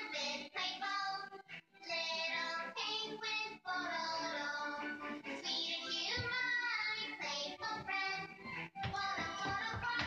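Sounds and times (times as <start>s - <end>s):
children's song with sung vocals: 0.0s - 10.0s.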